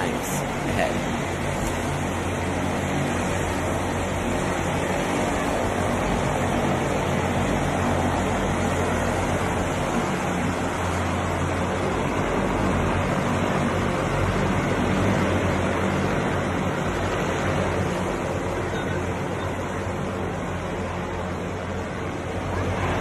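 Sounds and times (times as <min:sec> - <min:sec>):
helicopter rotor and turbine noise: 0:00.0 - 0:23.0.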